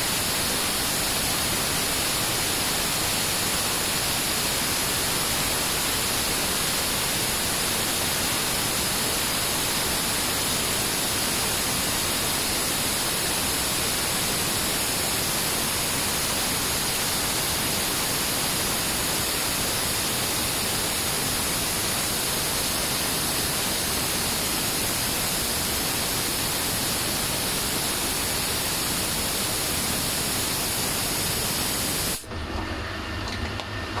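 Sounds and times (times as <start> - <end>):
lathe machining hiss: 0.0 - 32.3.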